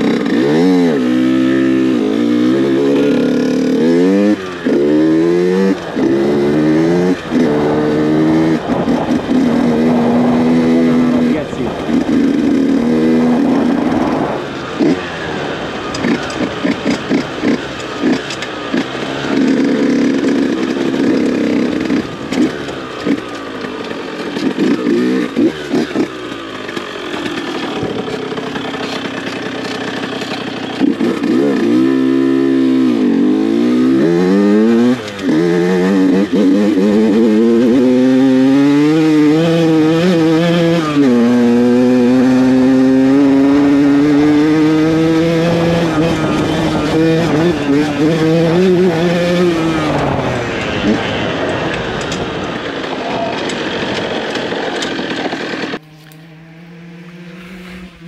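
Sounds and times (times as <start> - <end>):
moped engine revving: 0.0 - 58.0.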